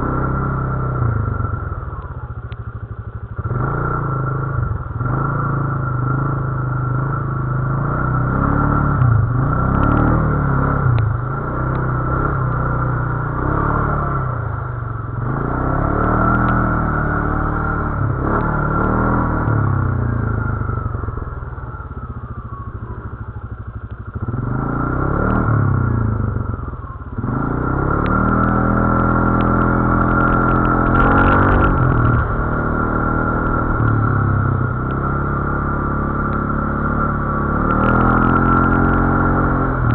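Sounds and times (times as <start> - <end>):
atv engine revving: 0.0 - 2.6, 3.3 - 39.9.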